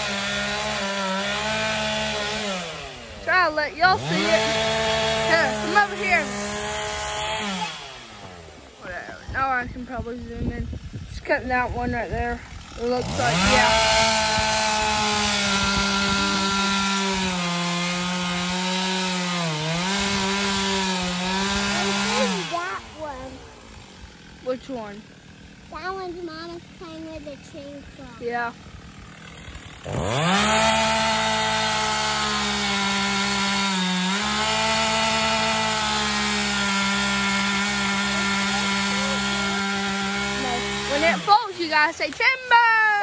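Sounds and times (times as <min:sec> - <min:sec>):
chainsaw cutting tree: 0:00.0 - 0:43.0.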